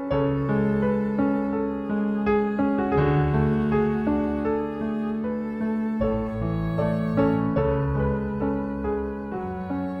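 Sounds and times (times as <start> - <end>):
slow sad orchestral music: 0.0 - 10.0.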